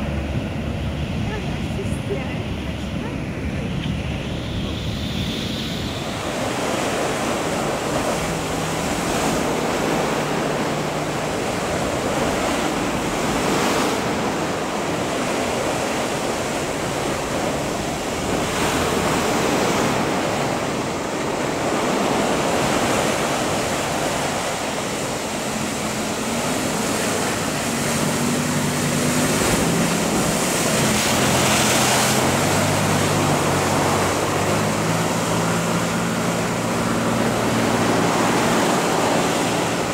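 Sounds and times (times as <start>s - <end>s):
heavy surf breaking: 0.0s - 39.9s
wind on microphone: 0.0s - 39.9s.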